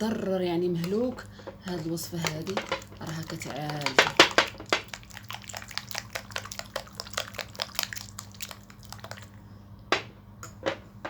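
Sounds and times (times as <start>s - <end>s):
utensil mashing wet mixture: 0.0s - 9.4s.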